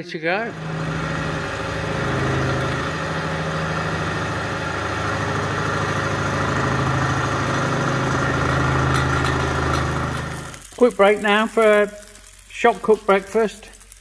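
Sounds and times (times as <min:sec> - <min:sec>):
milling machine running: 0:00.5 - 0:12.6.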